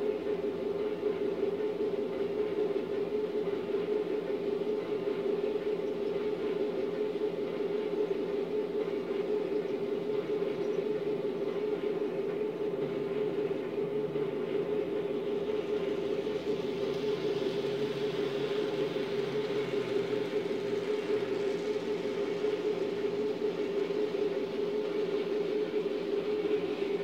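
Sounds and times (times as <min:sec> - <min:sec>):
model train motors whirring: 0:00.0 - 0:27.0.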